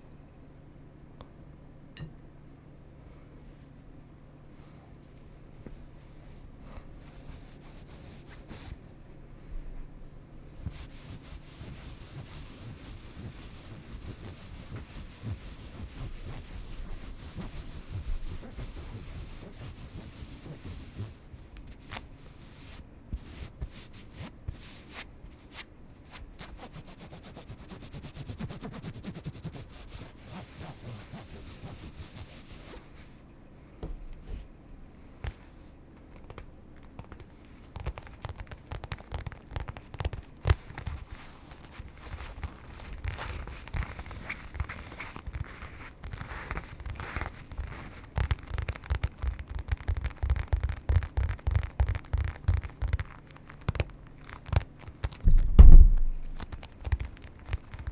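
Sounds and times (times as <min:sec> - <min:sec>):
close rubbing and scratching: 0:06.2 - 0:08.8, 0:10.6 - 0:33.3, 0:35.3 - 0:57.9.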